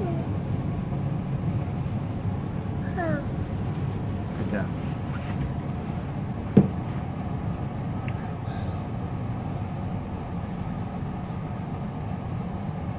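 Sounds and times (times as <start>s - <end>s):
train rumbling inside carriage: 0.0s - 12.9s.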